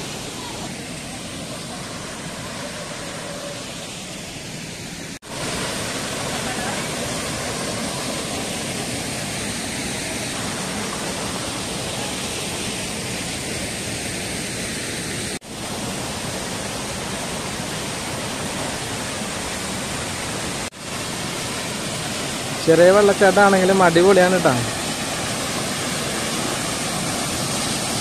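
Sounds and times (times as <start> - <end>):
waterfall rushing water: 0.0 - 28.0.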